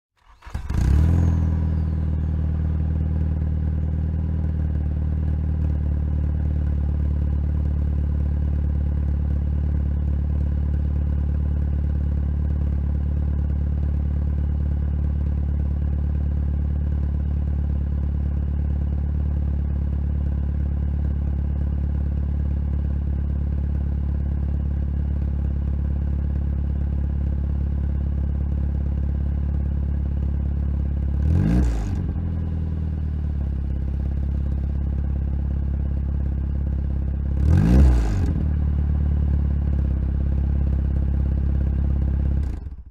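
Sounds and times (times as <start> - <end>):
car engine starting and idling: 0.2 - 14.4, 17.7 - 42.9.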